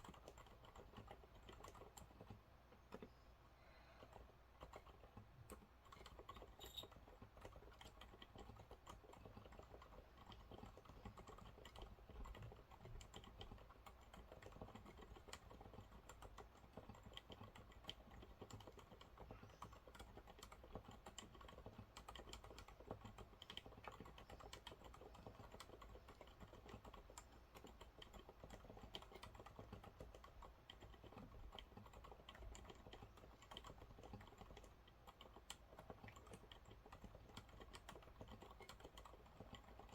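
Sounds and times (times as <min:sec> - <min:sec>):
typing on mechanical keyboard: 0:00.0 - 0:03.2, 0:04.0 - 0:39.9.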